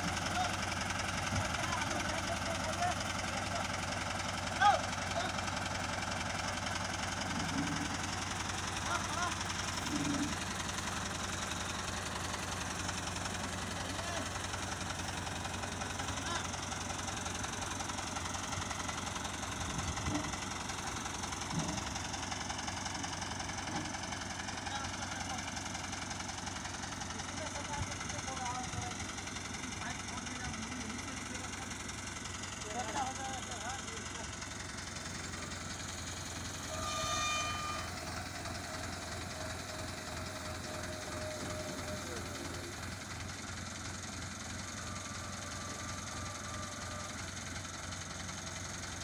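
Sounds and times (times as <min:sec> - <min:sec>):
diesel crane engine running: 0:00.0 - 0:49.0.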